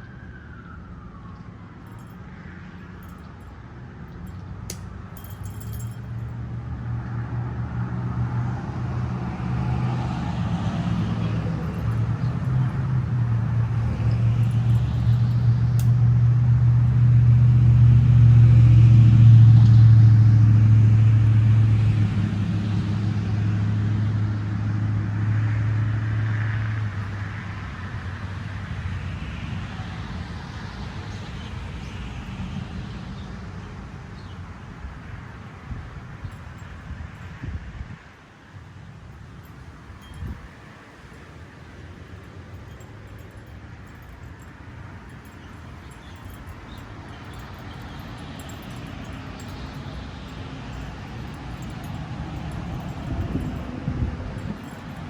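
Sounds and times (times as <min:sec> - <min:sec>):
vehicle engine hum passing: 0:00.3 - 0:55.0.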